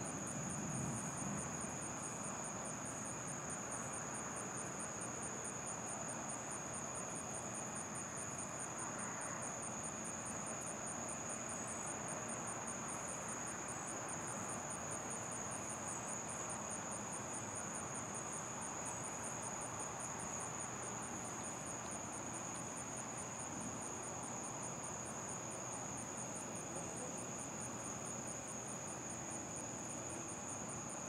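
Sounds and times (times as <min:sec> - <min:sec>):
low steady hiss: 0:00.0 - 0:31.0
night insects trilling: 0:00.0 - 0:31.0.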